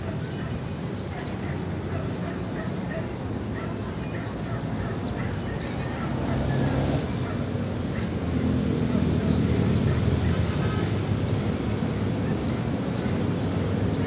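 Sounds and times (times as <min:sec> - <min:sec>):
faint voices: 0:00.0 - 0:13.7
distant city traffic rumble: 0:00.0 - 0:14.0.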